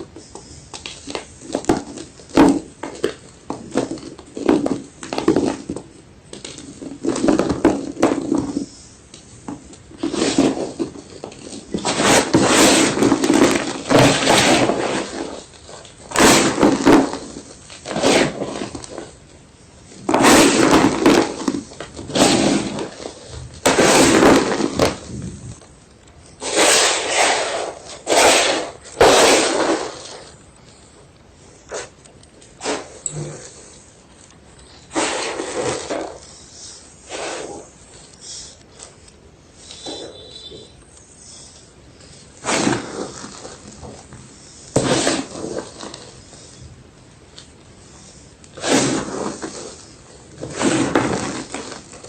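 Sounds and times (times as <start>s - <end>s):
chalk crunching: 0.2s - 46.6s, 47.3s - 52.0s.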